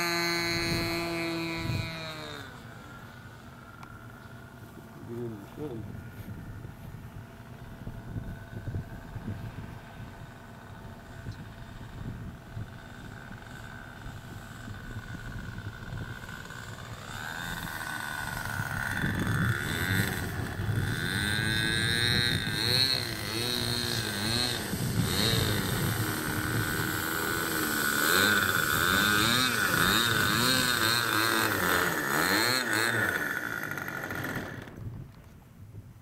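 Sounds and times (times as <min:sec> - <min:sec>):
model plane engine running: 0:00.0 - 0:35.4.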